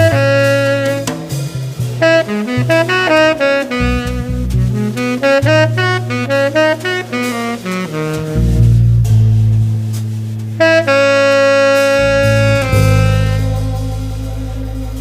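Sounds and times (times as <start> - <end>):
instrumental music small group: 0.0 - 15.0.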